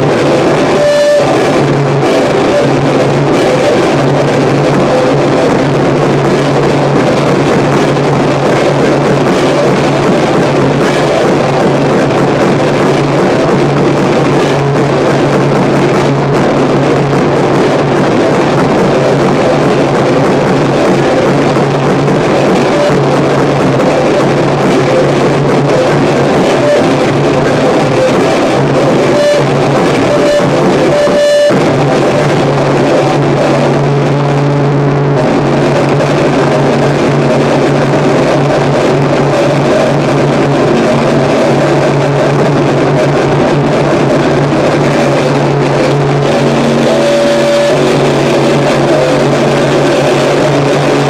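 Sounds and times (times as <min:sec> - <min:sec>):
distorted noise music: 0:00.0 - 0:51.0
steady low hum: 0:00.0 - 0:51.0.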